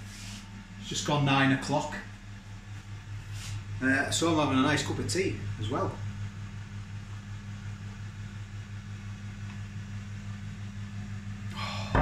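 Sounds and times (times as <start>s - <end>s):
air fryer fan humming: 0.0s - 12.0s.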